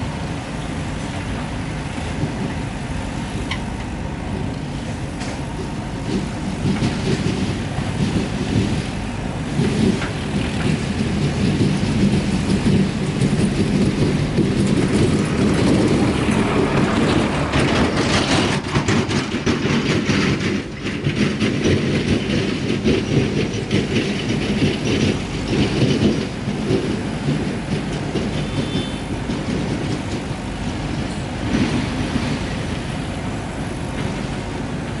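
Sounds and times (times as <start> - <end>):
diesel engine rumbling: 0.0 - 35.0.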